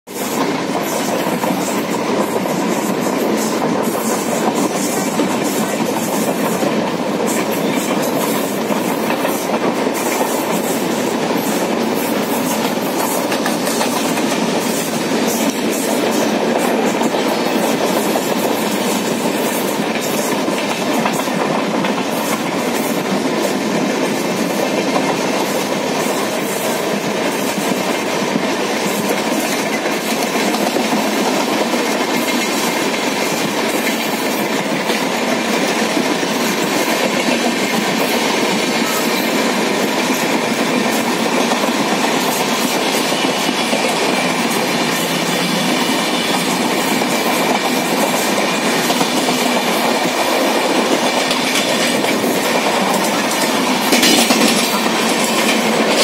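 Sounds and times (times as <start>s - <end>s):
train wheel and rail noise: 0.1s - 56.0s
wheels clicking over rail joints: 0.4s - 56.0s.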